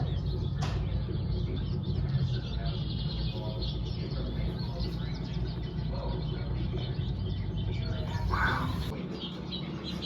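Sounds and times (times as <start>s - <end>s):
small birds chirping over speakers: 0.0s - 10.0s
steady low hum: 0.0s - 10.0s.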